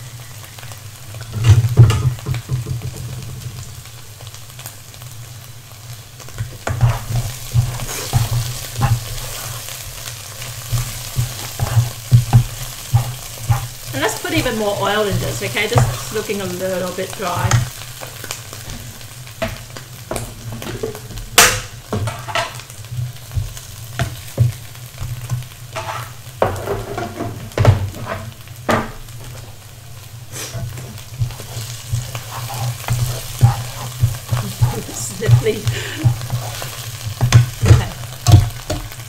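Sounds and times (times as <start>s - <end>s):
sambal sizzling in a wok: 0.0s - 39.0s
spatula scraping and knocking wok: 0.5s - 4.3s, 6.2s - 39.0s.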